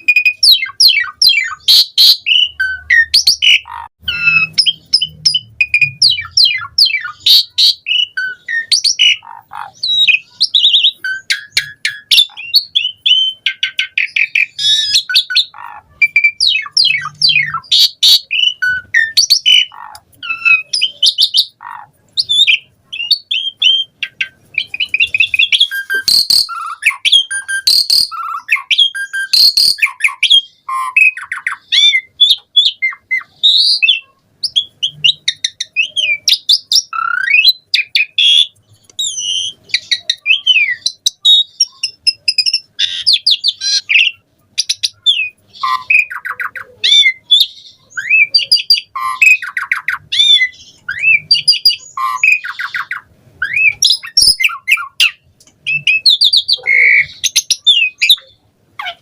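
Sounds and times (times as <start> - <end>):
starling singing varied whistles: 0.0 - 59.0.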